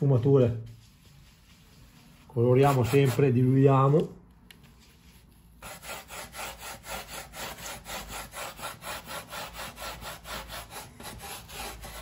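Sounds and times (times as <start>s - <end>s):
paintbrush scrubbing foam wall: 0.0s - 4.0s, 4.7s - 12.0s.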